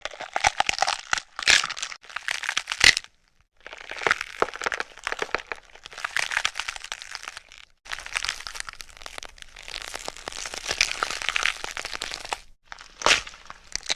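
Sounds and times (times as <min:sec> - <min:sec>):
bones cracking and crunching: 0:00.0 - 0:13.9.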